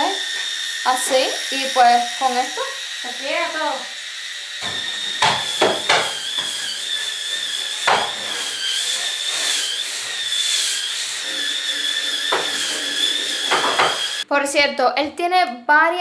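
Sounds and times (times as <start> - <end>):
spin scrubber whining: 0.0 - 14.3.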